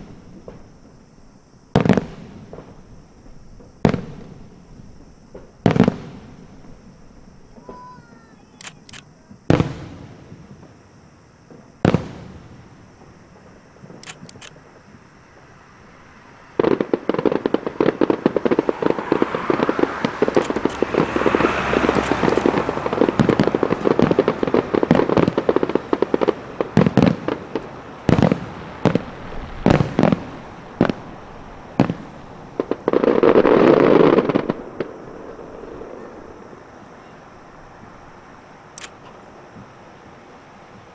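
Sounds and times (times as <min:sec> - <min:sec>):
fireworks crackling pops: 0:00.0 - 0:40.9
heavy firework booms: 0:01.7 - 0:08.5, 0:09.4 - 0:14.0, 0:16.5 - 0:38.6.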